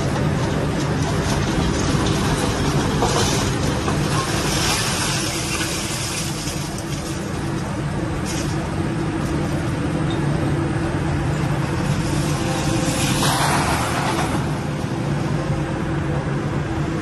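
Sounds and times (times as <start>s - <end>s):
machine working on rubble: 0.0s - 15.4s
excavator diesel engine running: 0.0s - 17.0s.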